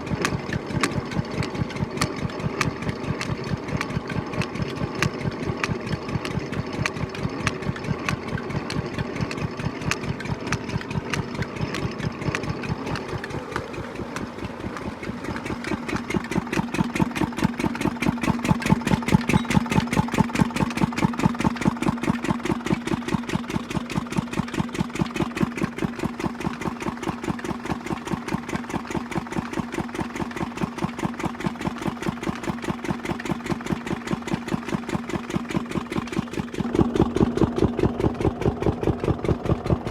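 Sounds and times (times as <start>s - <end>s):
engine running rhythmically: 0.0s - 39.9s.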